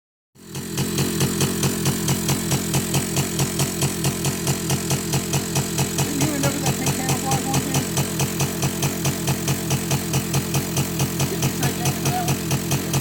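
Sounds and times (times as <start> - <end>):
atv engine idling: 0.4 - 13.0.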